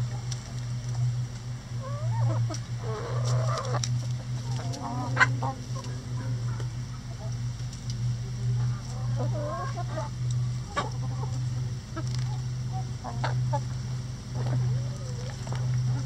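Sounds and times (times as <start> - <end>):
steady low hum: 0.0 - 16.0
chickens clucking softly: 1.7 - 7.6, 8.5 - 16.0.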